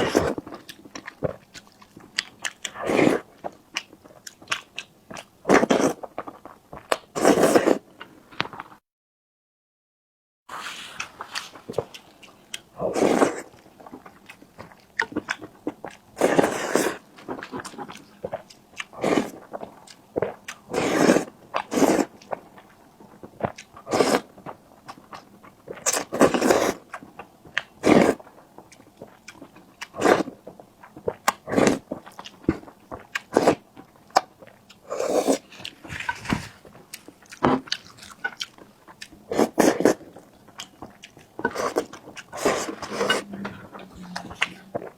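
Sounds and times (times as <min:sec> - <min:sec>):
person chewing food: 0:00.0 - 0:08.8, 0:10.6 - 0:44.9.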